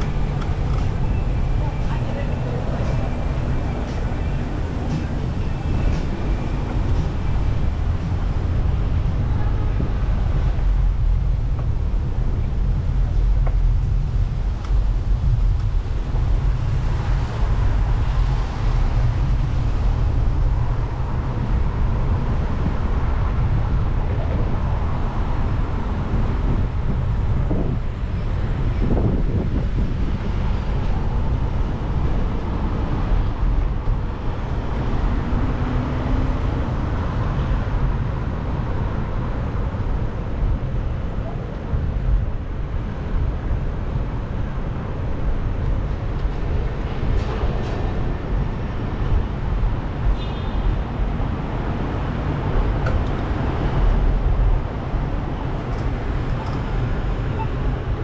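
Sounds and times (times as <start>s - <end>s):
street traffic noise: 0.0s - 58.0s
wind rumbling on microphone: 0.0s - 58.0s.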